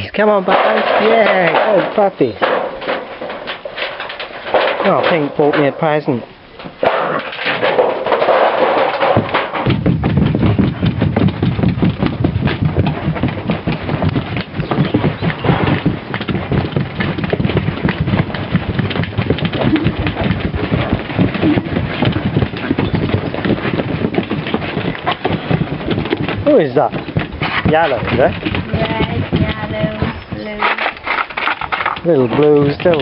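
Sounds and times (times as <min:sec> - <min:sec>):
puppies scrambling and bumping: 0:00.0 - 0:33.0.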